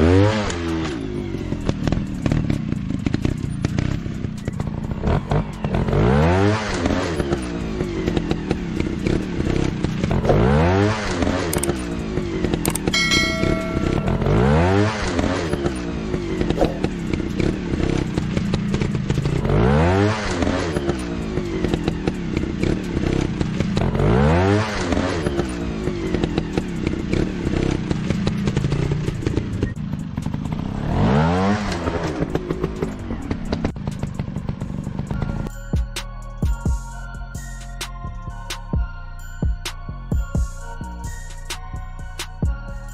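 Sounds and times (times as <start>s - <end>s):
motocross bike engines revving: 0.0s - 35.4s.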